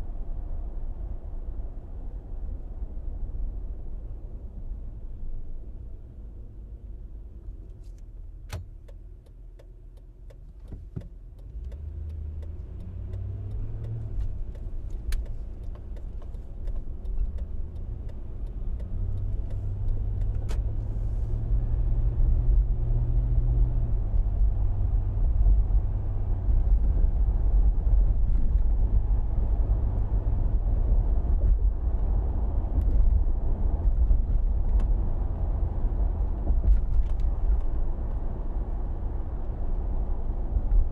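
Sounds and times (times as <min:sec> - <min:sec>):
suv engine and road rumble: 0:00.0 - 0:40.9.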